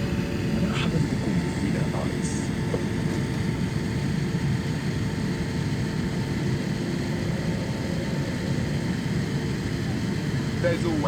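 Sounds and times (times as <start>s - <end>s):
airliner cabin rumble: 0.0s - 11.0s
faint steady hum: 0.0s - 11.0s.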